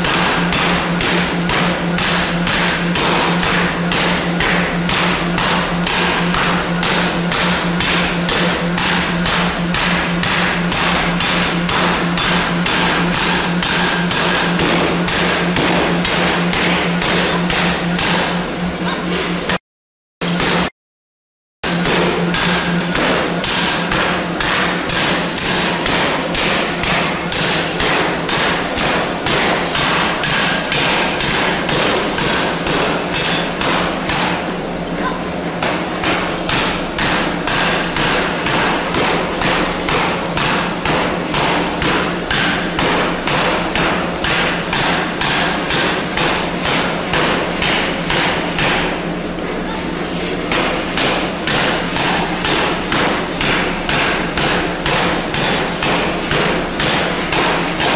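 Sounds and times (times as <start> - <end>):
power hammer pounding metal: 0.0 - 19.6, 20.2 - 20.7, 21.6 - 57.9.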